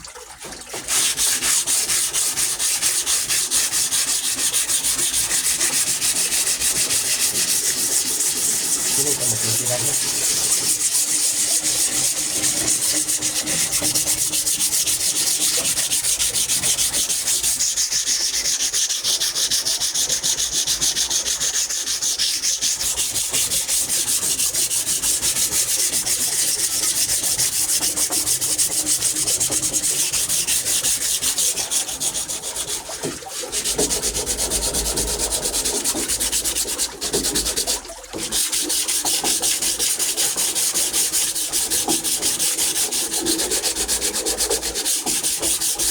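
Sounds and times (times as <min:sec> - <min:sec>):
sandpaper rubbing on wood: 0:00.9 - 0:45.9.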